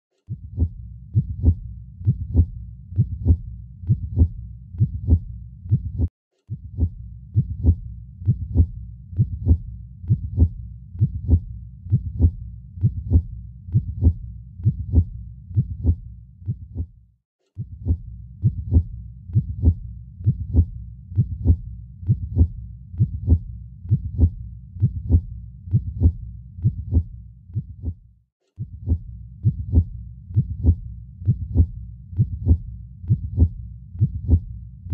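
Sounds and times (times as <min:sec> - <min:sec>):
heartbeat thumps: 0:00.3 - 0:16.9, 0:17.6 - 0:28.0, 0:28.6 - 0:34.6.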